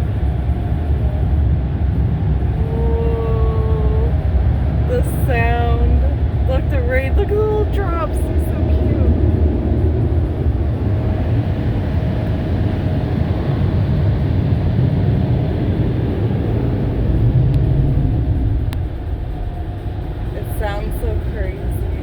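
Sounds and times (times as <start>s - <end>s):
car wash machinery rumbling: 0.0s - 22.0s.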